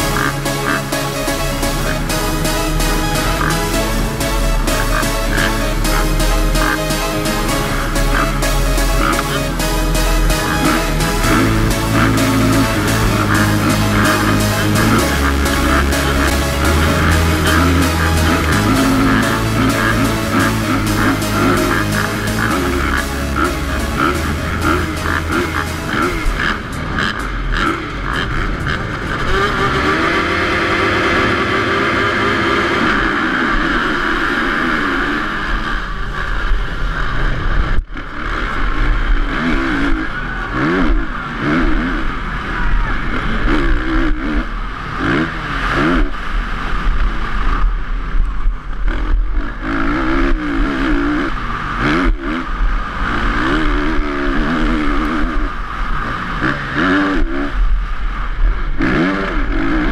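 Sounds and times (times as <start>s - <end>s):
motocross bike engine racing: 0.0s - 59.9s
other motorbike engines: 0.0s - 59.9s.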